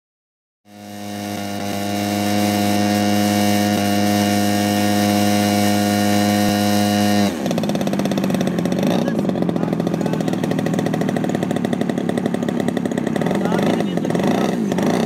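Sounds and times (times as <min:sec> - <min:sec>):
model plane engine: 0:00.7 - 0:15.0.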